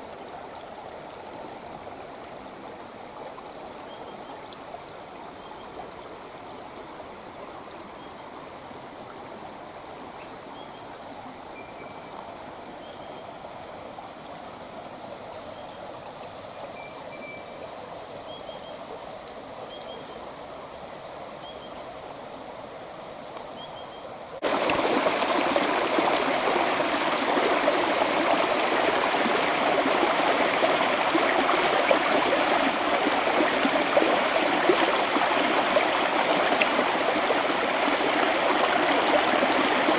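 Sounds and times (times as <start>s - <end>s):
creek water flowing: 0.0s - 16.8s, 17.6s - 39.9s.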